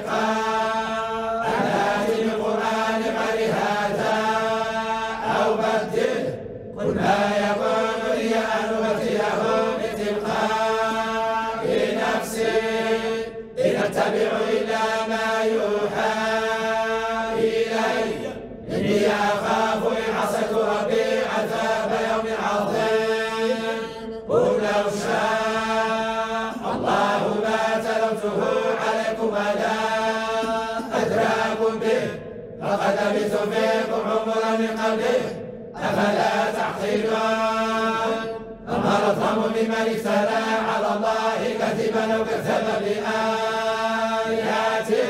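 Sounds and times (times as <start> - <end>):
men chanting in unison: 0.0 - 45.0.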